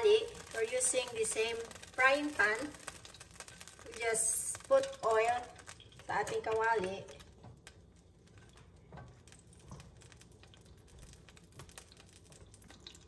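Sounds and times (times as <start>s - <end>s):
oil ticking in frying pan: 0.0s - 13.0s.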